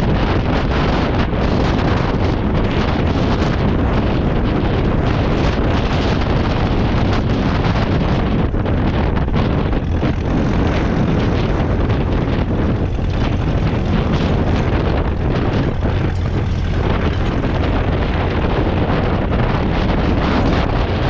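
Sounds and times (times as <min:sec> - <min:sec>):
tractor engine running: 0:00.0 - 0:21.0
wind buffeting microphone: 0:00.0 - 0:21.0.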